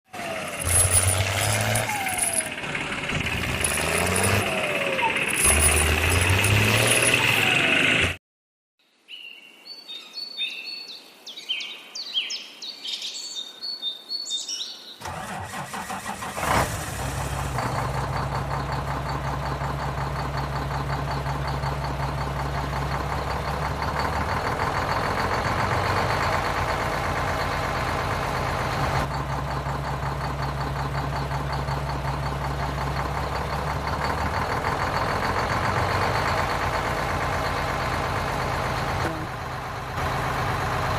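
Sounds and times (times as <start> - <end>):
vehicle engine running: 0.1 - 8.2, 15.0 - 40.9.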